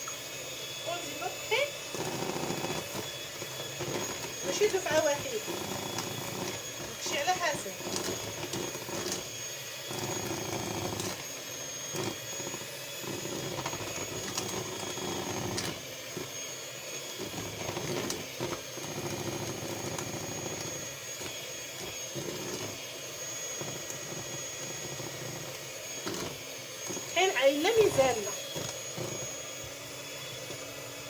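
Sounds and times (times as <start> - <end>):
electric mixer whining: 0.0 - 31.0.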